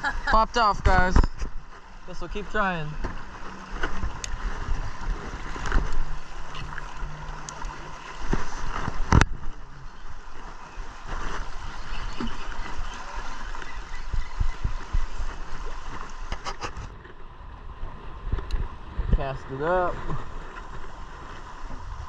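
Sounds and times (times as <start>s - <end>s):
water lapping against metal boat: 0.0s - 22.0s
wind: 0.0s - 22.0s.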